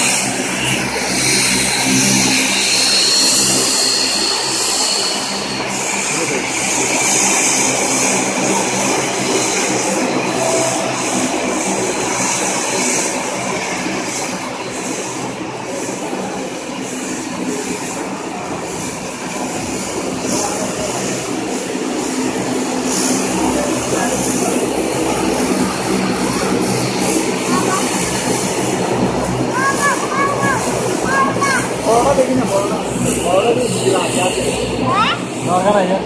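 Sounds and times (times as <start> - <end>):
high engine whine: 0.0 - 36.0
turboprop engines droning: 0.0 - 36.0.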